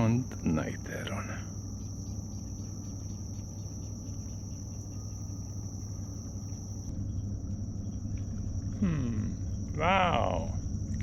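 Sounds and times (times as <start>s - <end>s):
insects trilling: 0.0s - 11.0s
low steady rumble: 0.0s - 11.0s.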